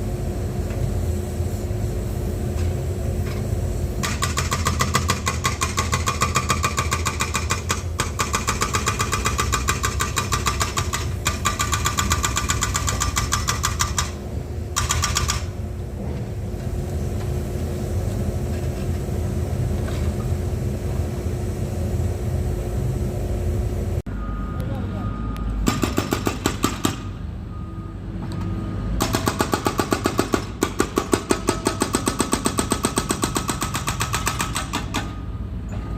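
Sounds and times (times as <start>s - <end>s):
excavator engine running: 3.9s - 35.9s.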